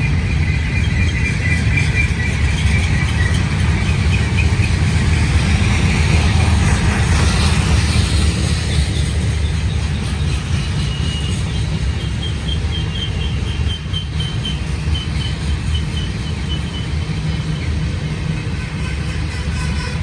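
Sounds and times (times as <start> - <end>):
freight train rolling past: 0.0 - 20.0.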